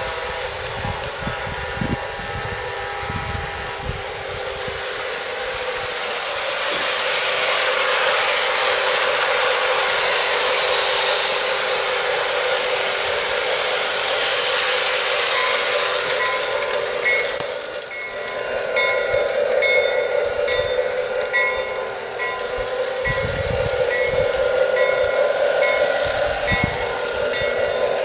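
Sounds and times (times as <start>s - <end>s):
model train running: 0.0s - 28.0s.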